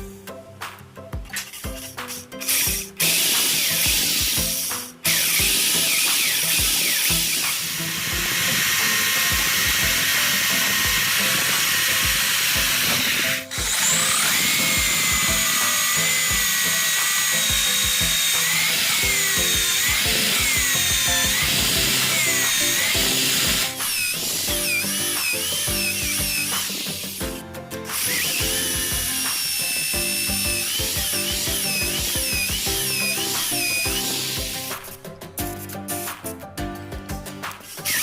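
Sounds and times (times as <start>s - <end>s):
background music: 0.0s - 38.0s
power tool motor whining: 1.4s - 27.3s, 27.9s - 34.9s, 37.6s - 38.0s.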